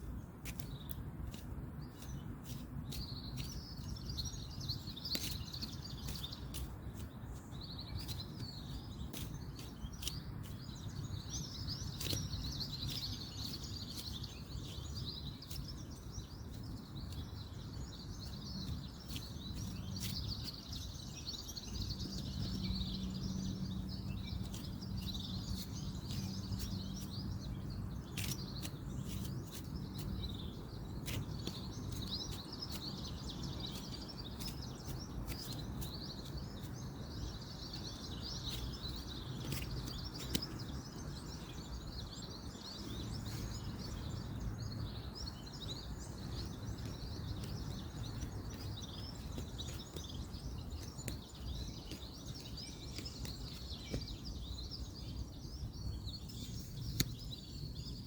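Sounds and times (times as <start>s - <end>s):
small birds chirping: 0.0s - 58.0s
distant road traffic: 8.0s - 58.0s.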